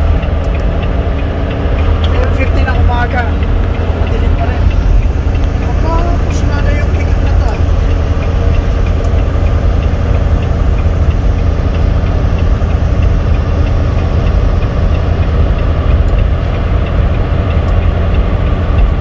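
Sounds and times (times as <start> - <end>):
truck engine and road rumble: 0.0 - 19.0
faint light ticking: 0.2 - 19.0.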